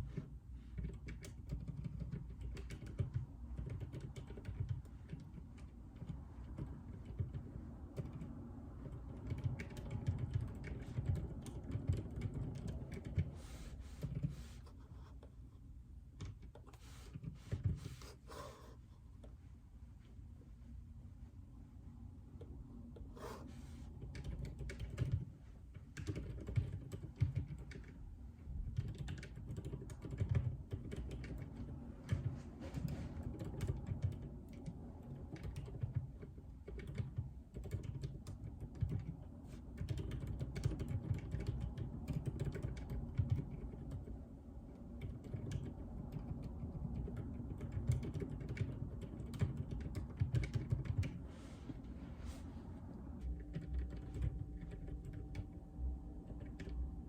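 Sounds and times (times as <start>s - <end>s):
soft keyboard keystrokes: 0.0s - 14.6s, 16.1s - 18.0s, 23.9s - 28.0s, 28.7s - 51.9s, 53.1s - 57.0s.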